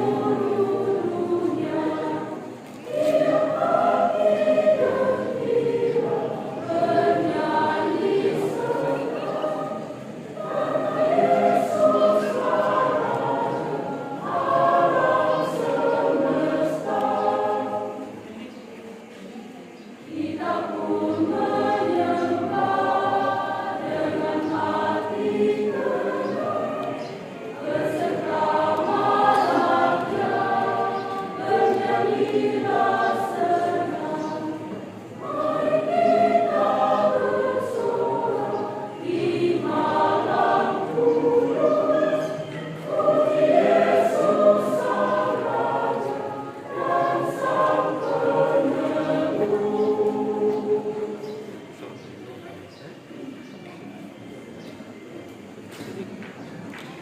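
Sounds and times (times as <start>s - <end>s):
choir singing: 0.0s - 52.4s.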